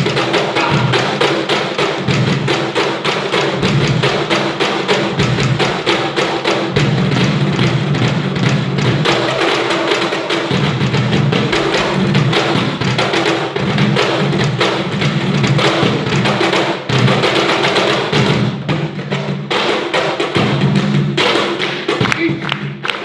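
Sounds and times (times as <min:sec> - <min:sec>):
cajon drumming: 0:00.0 - 0:23.0.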